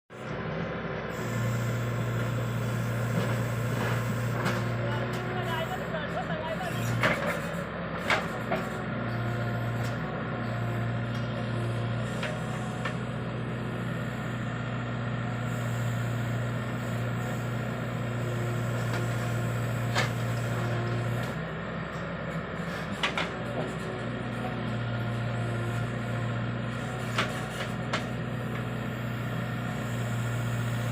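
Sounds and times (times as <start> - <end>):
diesel engine humming: 0.1 - 30.9.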